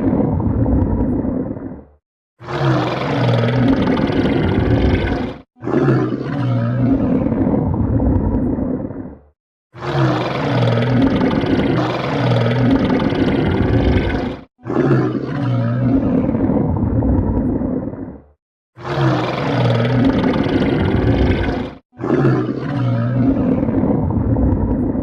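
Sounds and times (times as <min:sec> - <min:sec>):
stomach growling: 0:00.0 - 0:09.2, 0:09.8 - 0:25.0.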